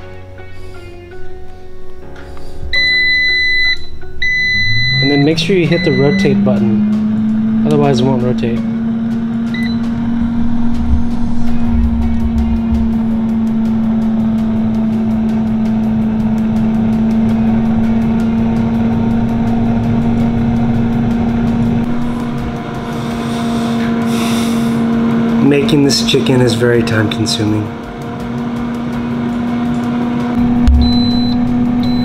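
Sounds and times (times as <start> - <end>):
air fryer fan humming: 0.0 - 32.0.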